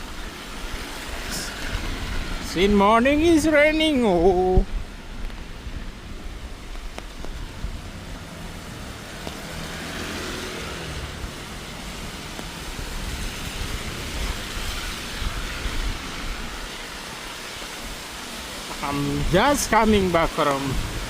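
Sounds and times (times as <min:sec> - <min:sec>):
traffic rumble: 0:00.0 - 0:21.0
tyres hissing on wet road: 0:00.0 - 0:21.0.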